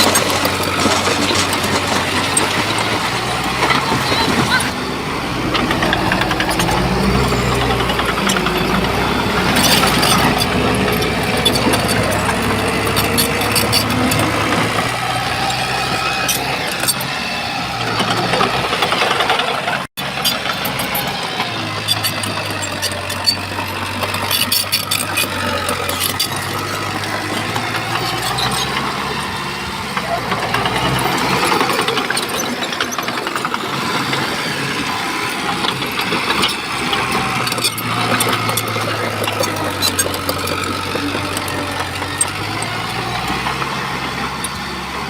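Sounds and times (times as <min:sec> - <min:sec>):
metallic clanks and rattles: 0:00.0 - 0:17.2, 0:17.8 - 0:45.0
bulldozer diesel engine: 0:00.0 - 0:45.0.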